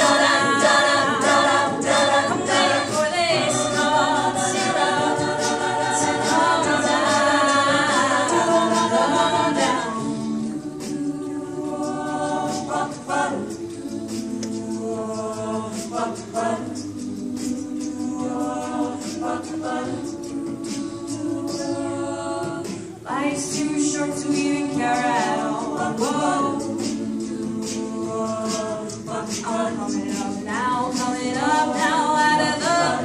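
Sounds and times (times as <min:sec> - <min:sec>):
a cappella group singing: 0:00.0 - 0:33.0.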